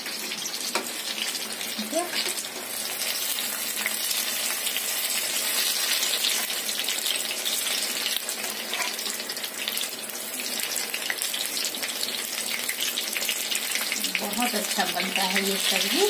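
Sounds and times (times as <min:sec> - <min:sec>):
food frying in hot oil: 0:00.0 - 0:16.0.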